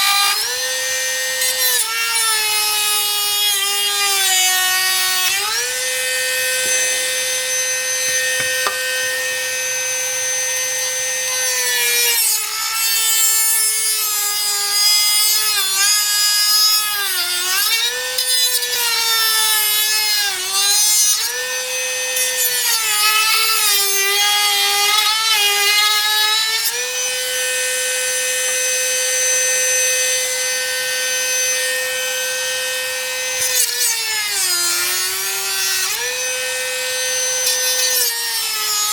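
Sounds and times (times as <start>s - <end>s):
power cutting tool whining: 0.0s - 38.9s.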